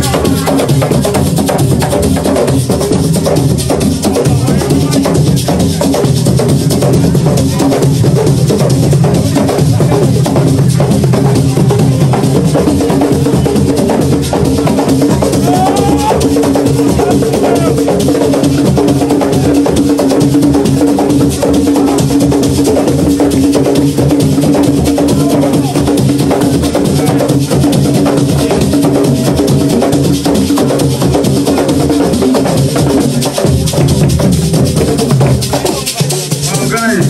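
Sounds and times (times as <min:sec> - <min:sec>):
driving percussion: 0:00.0 - 0:37.0.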